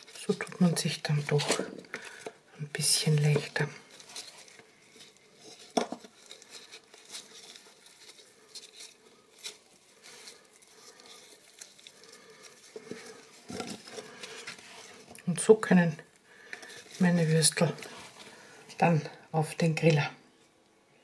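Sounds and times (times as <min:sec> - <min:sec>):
gloved hands handling food: 0:00.0 - 0:20.6.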